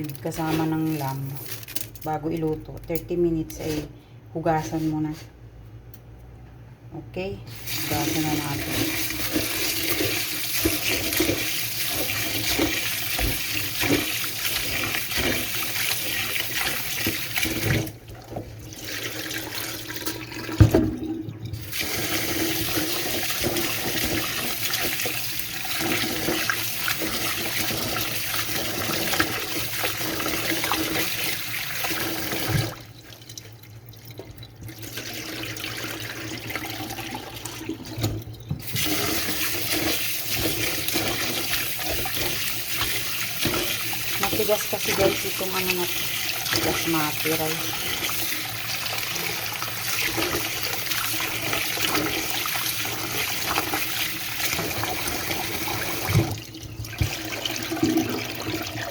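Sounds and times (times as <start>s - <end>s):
tap water pouring over rice: 7.6s - 20.8s, 21.6s - 58.9s.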